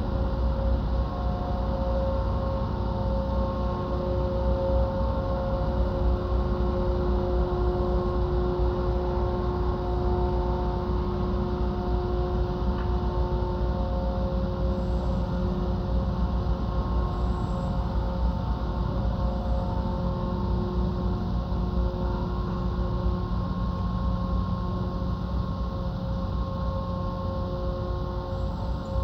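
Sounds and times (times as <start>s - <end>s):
droning hum of held tones: 0.0s - 29.0s.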